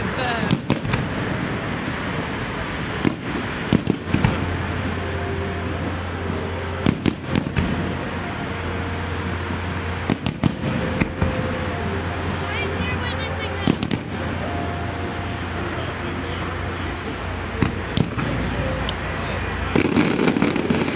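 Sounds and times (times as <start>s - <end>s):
low hum: 0.0s - 20.9s
rushing background noise: 0.0s - 20.9s.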